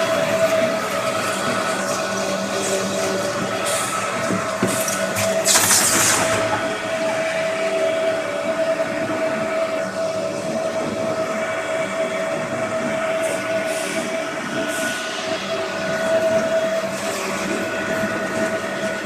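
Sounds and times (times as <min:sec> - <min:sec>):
compactor machine humming: 0:00.0 - 0:19.0.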